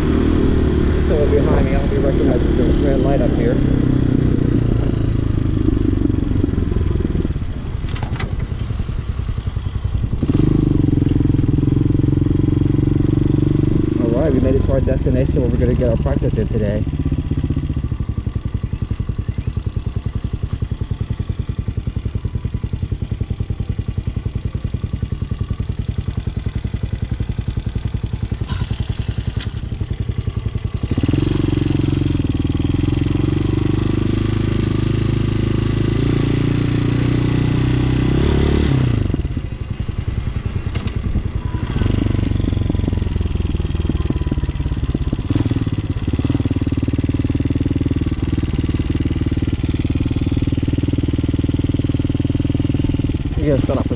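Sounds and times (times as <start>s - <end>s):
motorcycle engine idling: 0.0s - 53.9s
motorcycle engine revving: 0.0s - 53.9s.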